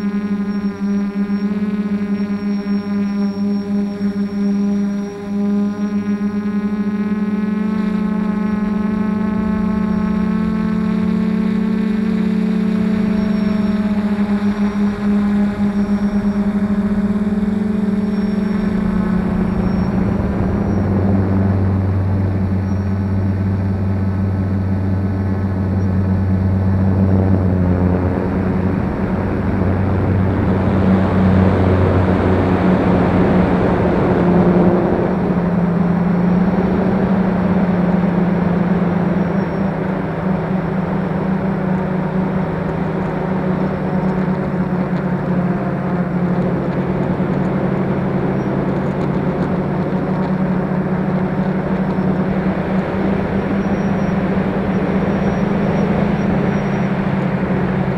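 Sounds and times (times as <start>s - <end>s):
quadcopter motors humming: 0.0s - 57.9s.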